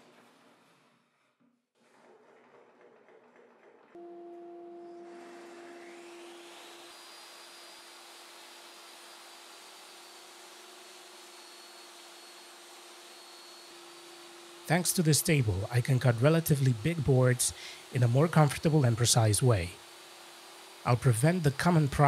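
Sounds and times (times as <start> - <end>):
table saw motor whine: 4.0 - 22.0.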